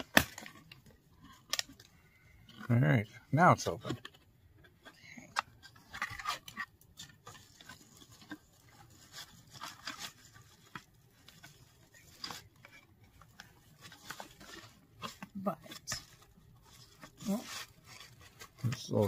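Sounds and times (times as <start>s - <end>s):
cardboard and paper rustling: 0.0s - 19.0s
light clicks and crinkles: 0.0s - 19.0s.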